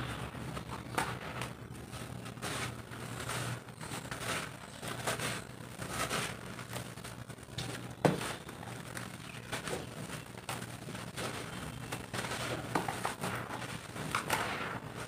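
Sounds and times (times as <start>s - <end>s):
dry dirt rustling as poured: 0.0s - 15.0s.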